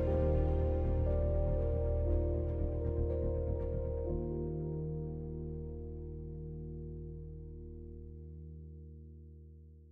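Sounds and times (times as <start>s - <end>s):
background music held chord: 0.0s - 9.9s.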